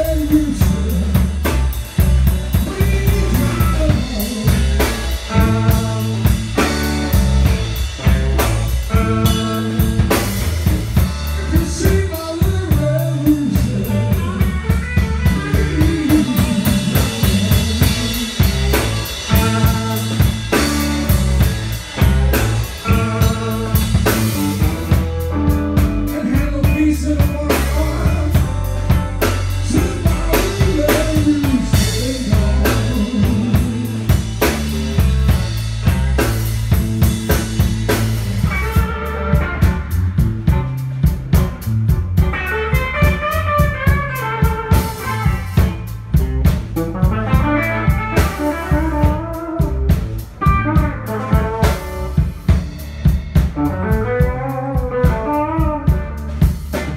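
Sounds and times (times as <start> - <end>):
bass guitar: 0.0 - 56.9
drum kit beat: 0.0 - 56.9
electric guitars: 0.0 - 56.9.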